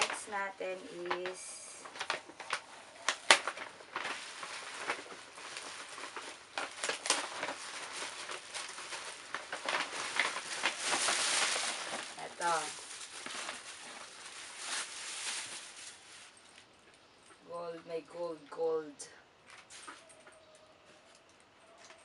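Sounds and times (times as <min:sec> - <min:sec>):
plastic bag rustling and crinkling: 0:00.0 - 0:17.4, 0:19.4 - 0:22.0.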